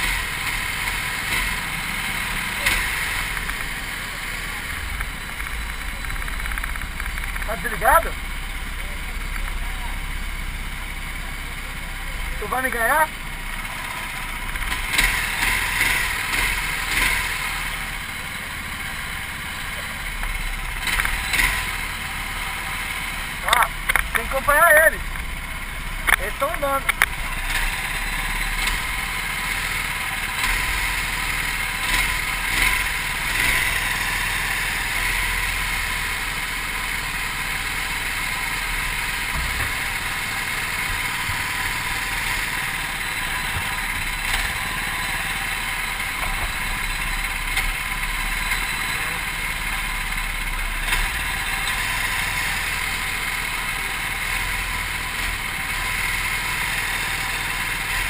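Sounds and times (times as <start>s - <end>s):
go-kart engines running: 0.0s - 58.0s.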